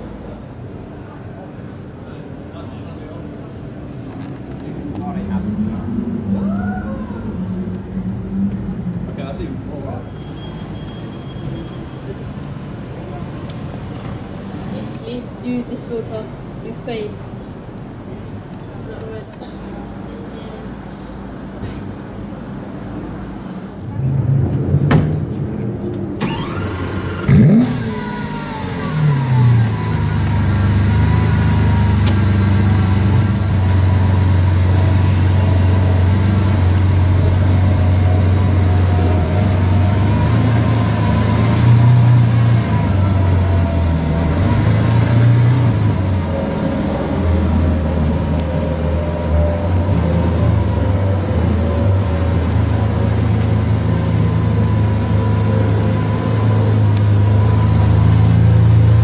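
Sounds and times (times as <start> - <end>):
sports car engine starting and idling: 0.0 - 59.0.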